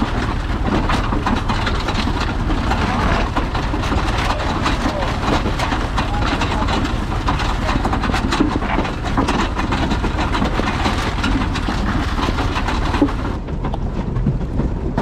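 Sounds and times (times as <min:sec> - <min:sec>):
harvester chains rattling: 0:00.0 - 0:15.0
tractor engine drone: 0:00.0 - 0:15.0.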